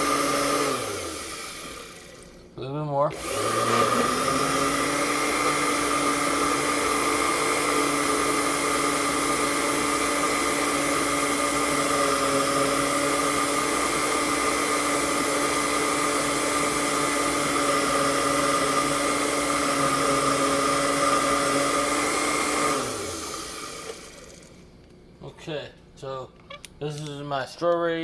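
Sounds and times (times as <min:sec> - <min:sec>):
blender motor running: 0:00.0 - 0:02.5, 0:03.1 - 0:24.7.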